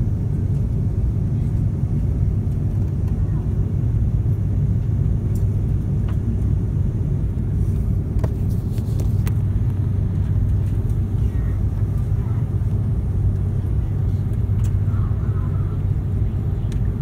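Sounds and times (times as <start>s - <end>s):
airplane engines idling: 0.0s - 17.0s.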